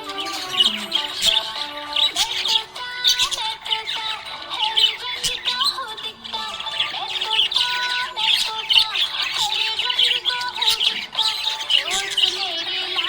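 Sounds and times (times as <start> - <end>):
budgerigar chirping and warbling: 0.0 - 13.0.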